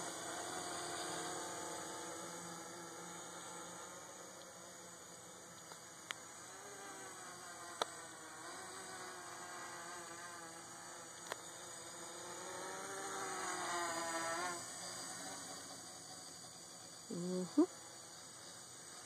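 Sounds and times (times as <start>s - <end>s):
drone motors buzzing: 0.0s - 19.0s.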